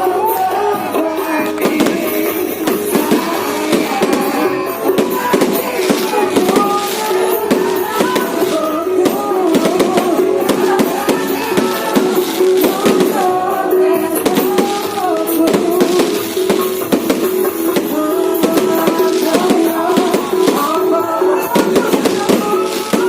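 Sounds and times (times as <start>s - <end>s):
fireworks popping and crackling: 0.0s - 23.0s
loud music with wandering melody: 0.0s - 23.0s.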